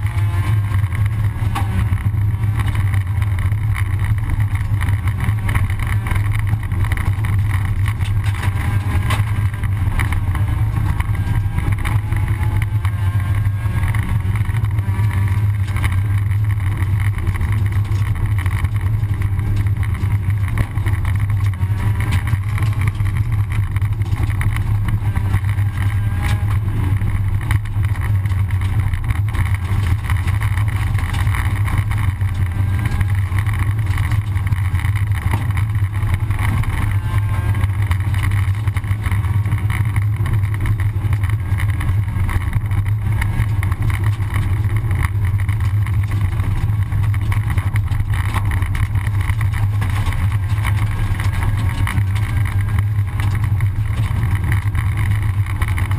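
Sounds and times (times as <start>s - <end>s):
car engine drone: 0.0s - 55.9s
tyres on gravel: 0.0s - 55.9s.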